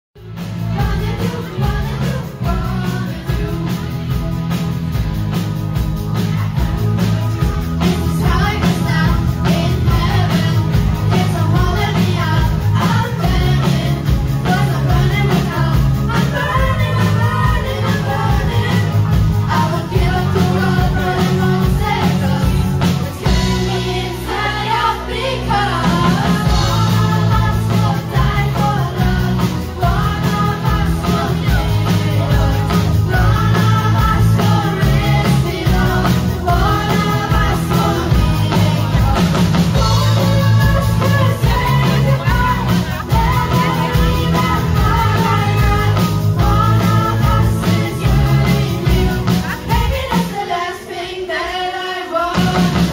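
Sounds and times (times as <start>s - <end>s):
voices singing together: 0.2s - 4.8s, 6.1s - 52.9s
live rock-pop band: 0.2s - 52.9s.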